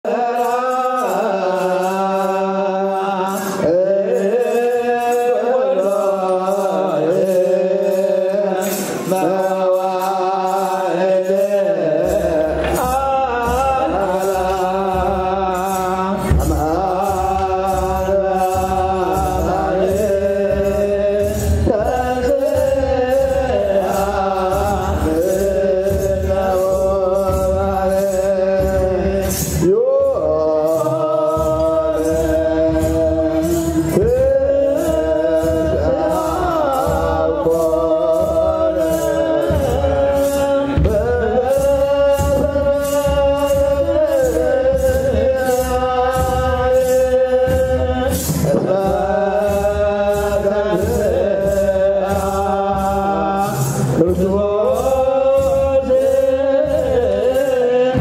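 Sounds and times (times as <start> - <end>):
person chanting a hymn: 0.0 - 58.0.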